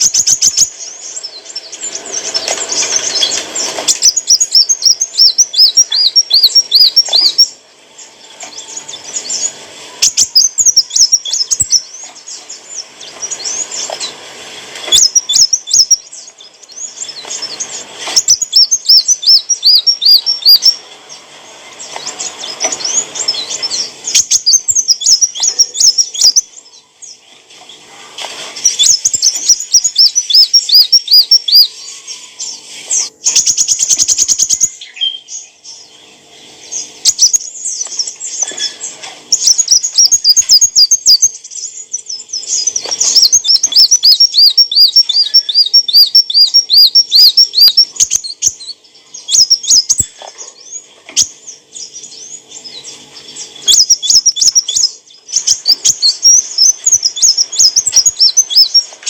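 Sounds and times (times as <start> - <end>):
sunbird singing: 0.0 - 59.0.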